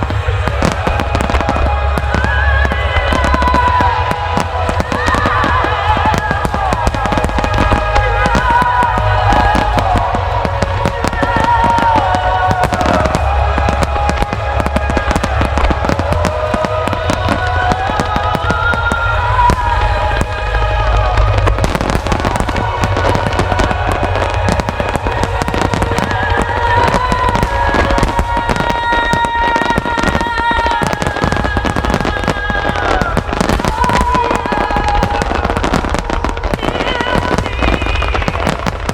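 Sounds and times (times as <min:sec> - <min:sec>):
firework booms and cracks: 0:00.0 - 0:38.9
loud show music: 0:00.0 - 0:38.9.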